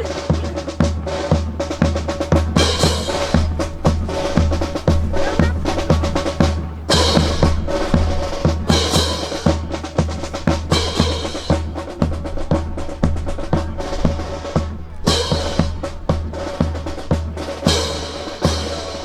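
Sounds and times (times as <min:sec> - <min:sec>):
drum-heavy music: 0:00.0 - 0:19.0.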